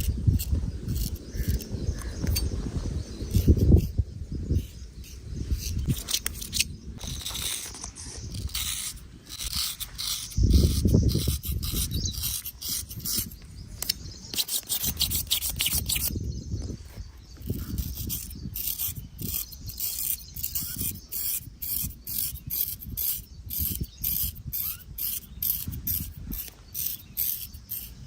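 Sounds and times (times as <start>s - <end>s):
razor scraping hair off skin: 0.0s - 2.6s, 3.2s - 16.2s, 17.3s - 28.0s.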